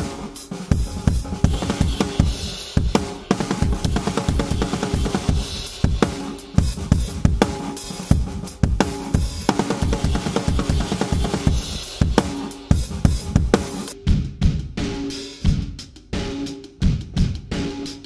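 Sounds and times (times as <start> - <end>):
drum kit playing: 0.0 - 18.0.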